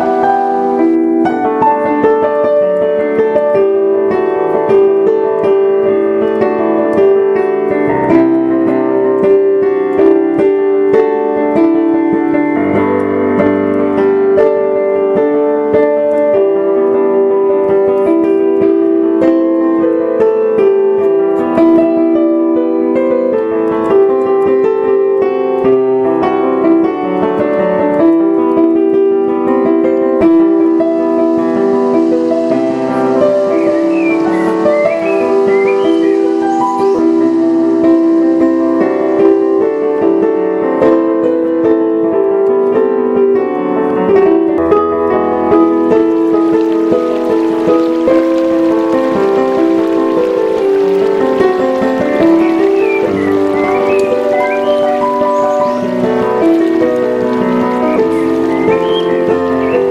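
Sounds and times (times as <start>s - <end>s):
improvised solo piano: 0.0s - 59.9s.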